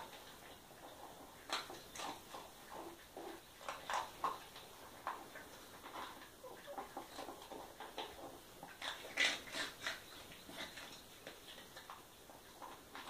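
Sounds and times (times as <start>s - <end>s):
dog chewing food: 0.0s - 13.0s.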